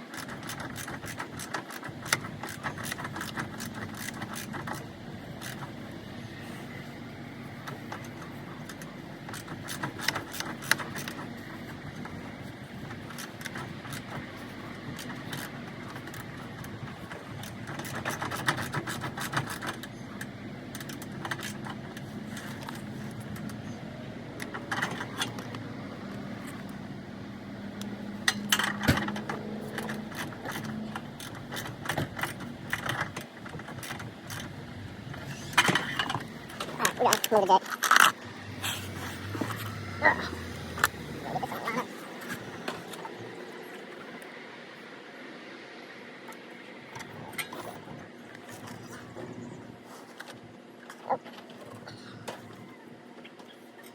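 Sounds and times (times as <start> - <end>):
steady background hum: 0.0 - 53.9.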